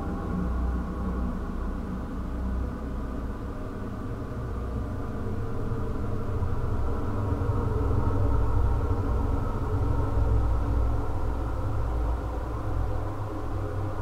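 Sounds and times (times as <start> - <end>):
dark ambient drone: 0.0 - 14.0.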